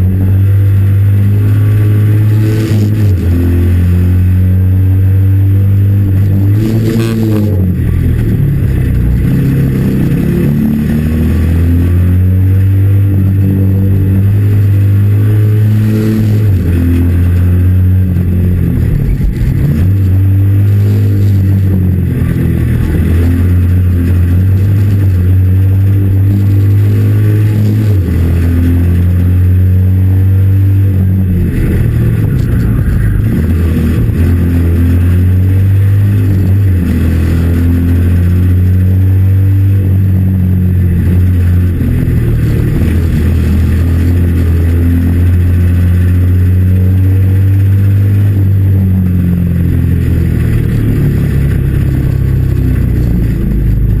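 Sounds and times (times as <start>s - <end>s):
race car engine from inside: 0.0s - 54.0s.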